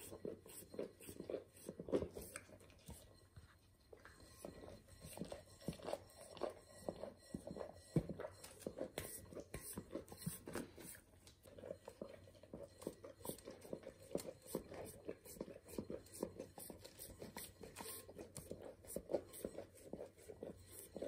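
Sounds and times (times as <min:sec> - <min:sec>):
dog licking a glass bowl: 0:00.0 - 0:21.0.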